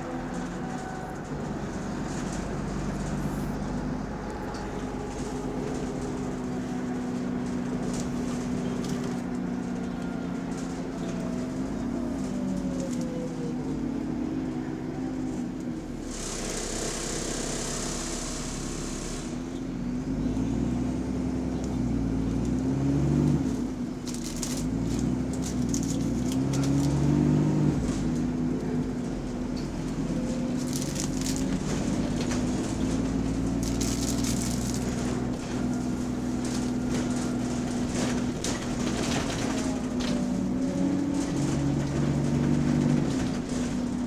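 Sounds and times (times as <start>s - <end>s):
bus engine with exhaust leak: 0.0s - 44.0s.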